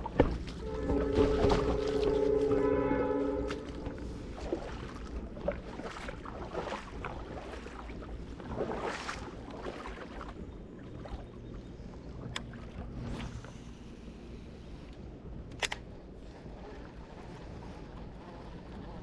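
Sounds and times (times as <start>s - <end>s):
water lapping and splashing: 0.0s - 19.0s.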